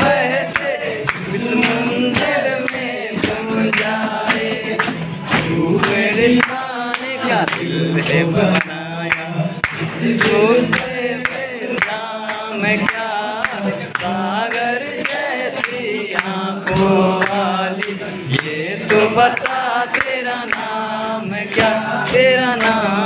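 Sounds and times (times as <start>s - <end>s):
group singing with singer: 0.0s - 23.0s
hand claps in time: 0.0s - 23.0s.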